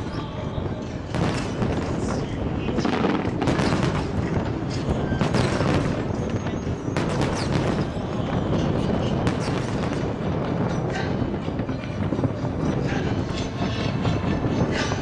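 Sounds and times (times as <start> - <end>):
fireworks booming and crackling: 0.0 - 15.0
sharp firework bangs: 1.1 - 13.4.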